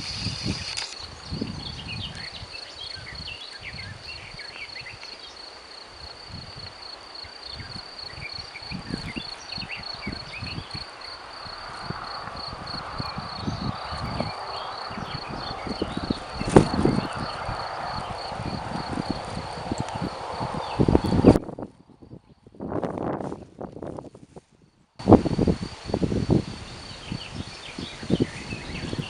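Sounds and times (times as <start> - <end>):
rustling hiss: 0.0 - 21.8, 22.6 - 29.0
insects trilling: 0.0 - 23.4, 25.0 - 29.0.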